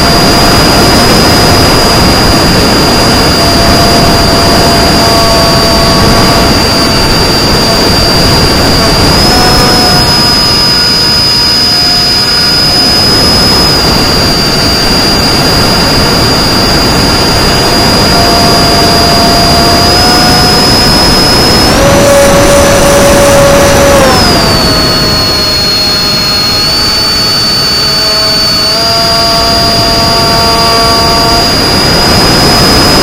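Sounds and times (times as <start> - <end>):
electric motor and propeller whining: 0.0 - 33.0
wind rush: 0.0 - 33.0.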